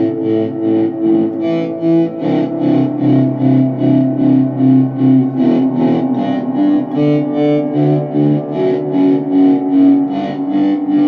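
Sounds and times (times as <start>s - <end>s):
fuzzed electric guitar with tremolo: 0.0s - 11.0s.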